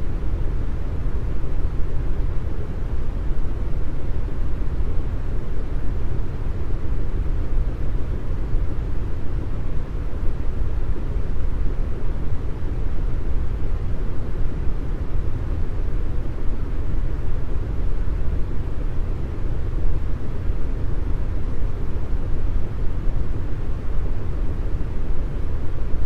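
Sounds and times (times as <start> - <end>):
deep brown noise hiss: 0.0 - 26.0.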